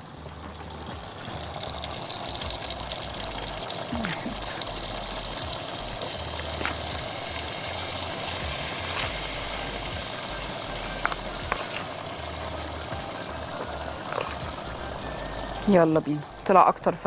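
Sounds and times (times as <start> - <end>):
sauce simmering in frying pan: 0.0 - 17.0.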